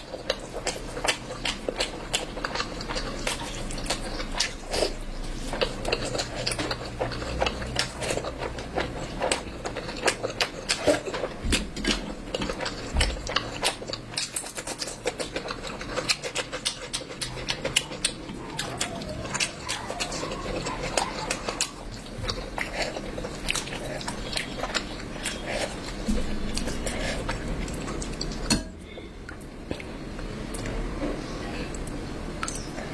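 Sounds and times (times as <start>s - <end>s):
person chewing: 0.0s - 32.9s.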